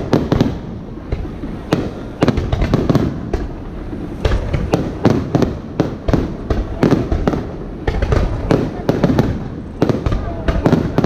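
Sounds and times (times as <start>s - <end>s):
firework crackles: 0.0s - 11.0s
firework shells bursting: 0.0s - 11.0s.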